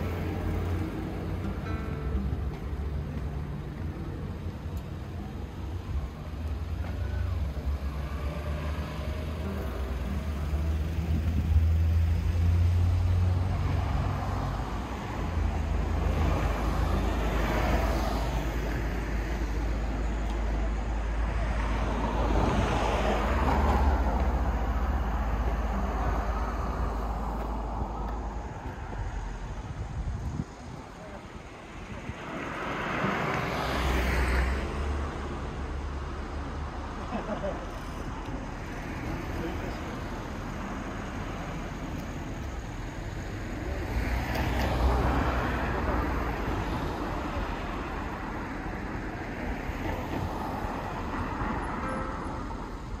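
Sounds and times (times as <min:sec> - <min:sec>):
cars passing close by: 0:00.0 - 0:53.0
low traffic rumble: 0:00.0 - 0:53.0.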